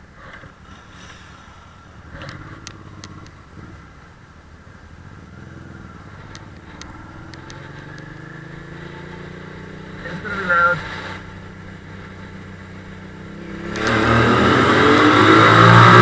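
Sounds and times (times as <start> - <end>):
motorcycle engine accelerating: 0.3 - 16.0.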